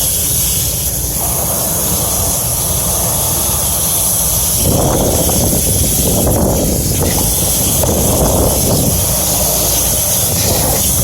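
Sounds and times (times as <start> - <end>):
water spray hissing on coil: 0.0 - 11.0.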